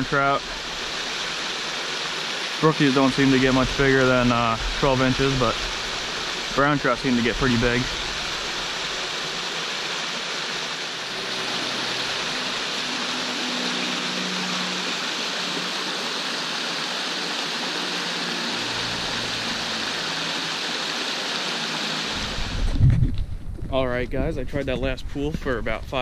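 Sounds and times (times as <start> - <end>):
stream water falling into pool: 0.0 - 23.3.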